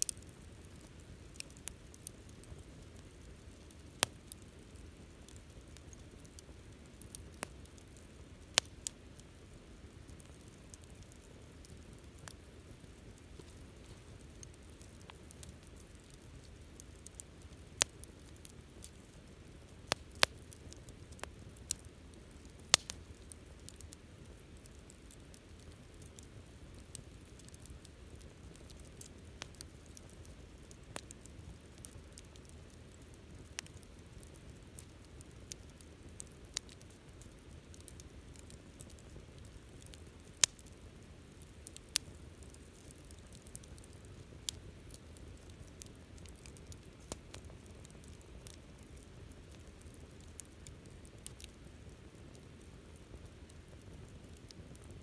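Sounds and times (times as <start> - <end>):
bonfire crackling and popping: 0.0 - 55.0
low rustle of flames: 0.0 - 55.0.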